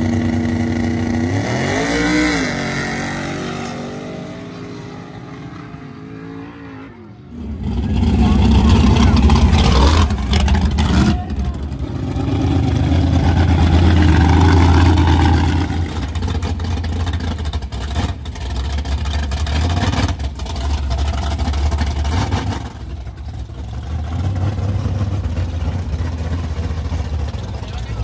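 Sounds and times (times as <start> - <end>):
racing vehicle engine running hard: 0.0 - 28.0.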